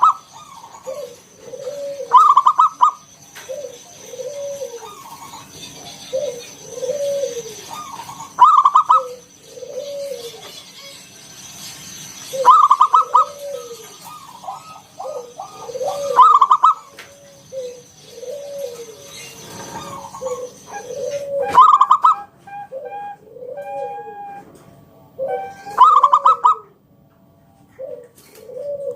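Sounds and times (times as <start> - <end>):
dove cooing: 0.0 - 11.0, 12.3 - 26.8, 27.7 - 28.9
dove rattling phrases: 0.0 - 26.6.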